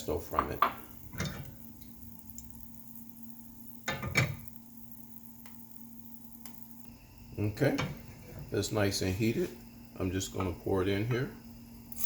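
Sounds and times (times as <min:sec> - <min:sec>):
oil crackling in a pot: 0:00.0 - 0:12.0
steady low hum: 0:00.0 - 0:12.0.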